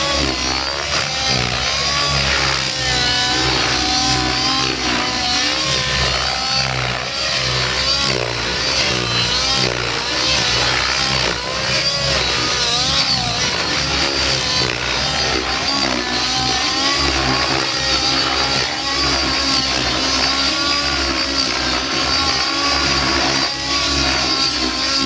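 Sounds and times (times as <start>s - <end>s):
model helicopter engine and rotor: 0.0s - 25.0s.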